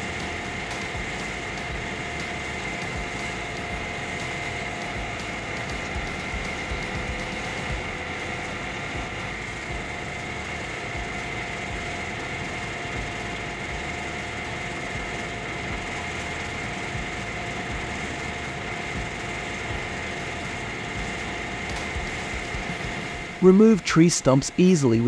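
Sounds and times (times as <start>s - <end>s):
heavy machinery engine drone: 0.0s - 25.0s.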